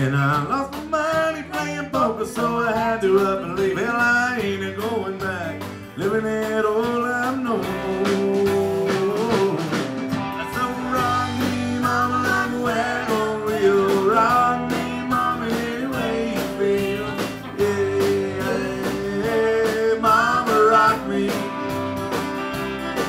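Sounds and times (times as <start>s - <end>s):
steady drum beat: 0.0s - 23.0s
strummed acoustic guitar: 0.0s - 23.0s
fiddle melody: 4.0s - 23.0s.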